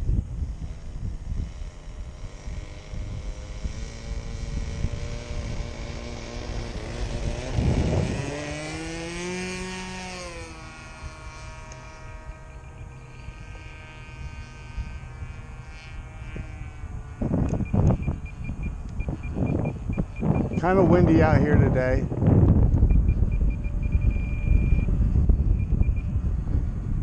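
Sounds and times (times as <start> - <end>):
model airplane engine at full throttle: 0.0 - 27.0
wind buffeting microphone: 0.0 - 27.0.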